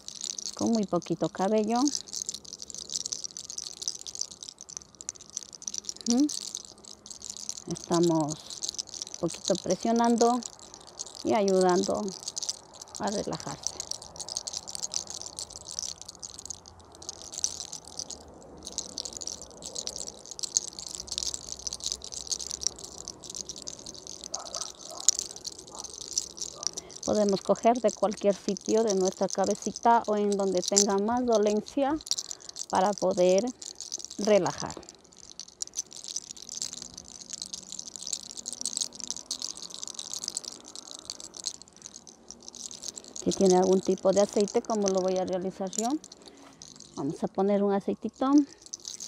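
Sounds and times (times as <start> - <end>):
hair crackling: 0.0 - 47.3, 48.1 - 49.0.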